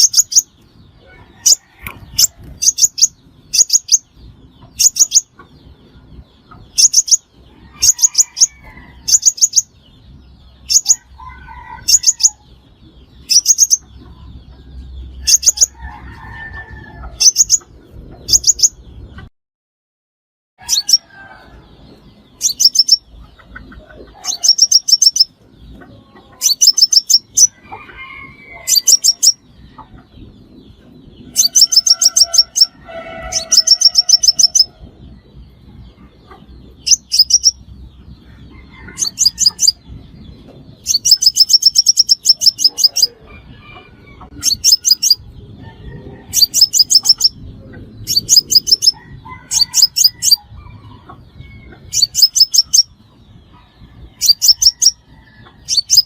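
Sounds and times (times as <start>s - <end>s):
high-pitched bird chirps: 0.0s - 15.8s, 17.1s - 19.3s, 20.6s - 21.1s, 21.8s - 27.6s, 28.6s - 38.2s, 38.9s - 43.3s, 44.2s - 45.4s, 46.3s - 53.1s, 54.1s - 55.0s, 55.6s - 56.0s.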